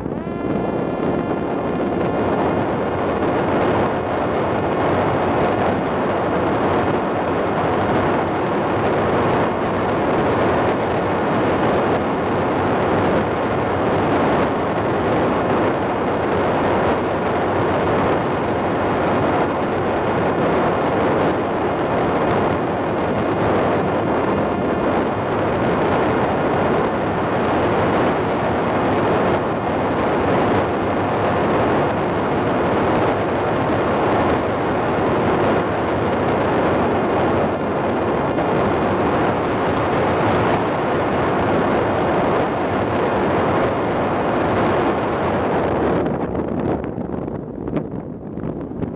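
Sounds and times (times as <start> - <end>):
drone airflow and motor: 0.0 - 48.9.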